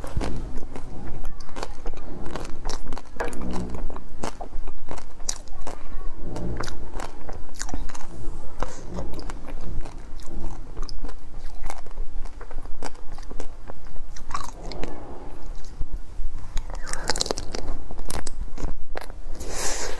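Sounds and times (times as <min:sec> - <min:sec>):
wet chewing: 0:00.0 - 0:15.8, 0:16.4 - 0:19.9.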